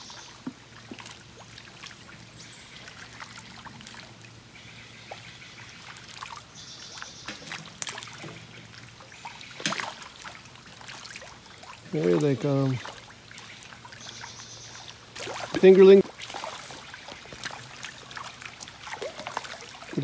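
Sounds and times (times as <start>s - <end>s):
fish splashing at water surface: 0.0s - 20.0s.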